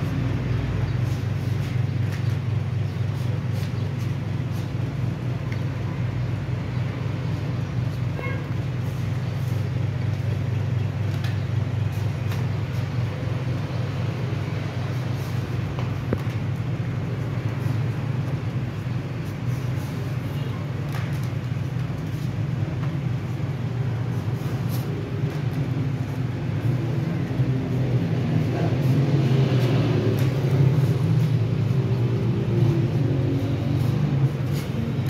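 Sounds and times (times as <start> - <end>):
low mechanical rumble: 0.0 - 35.0.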